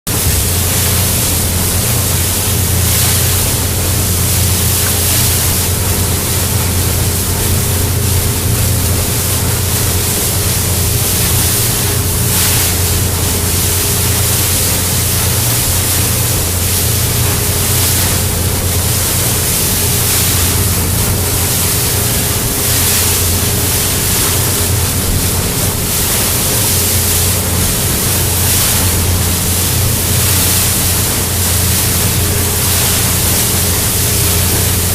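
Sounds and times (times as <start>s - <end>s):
boat engine drone: 0.1s - 34.9s
rush of wind and water: 0.1s - 34.9s.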